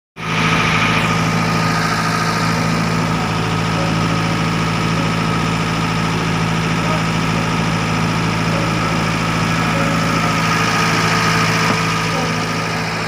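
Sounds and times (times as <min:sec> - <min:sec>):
diesel boat engine running: 0:00.2 - 0:13.0.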